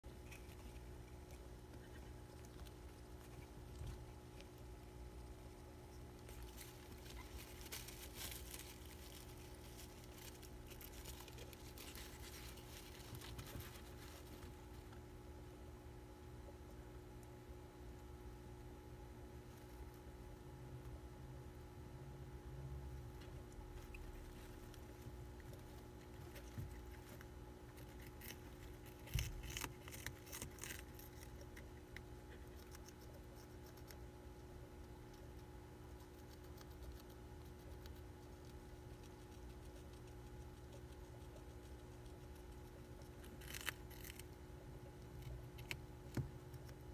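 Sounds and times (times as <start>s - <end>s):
faint steady hum: 0.0s - 46.9s
hamster crunching lettuce: 0.0s - 46.9s.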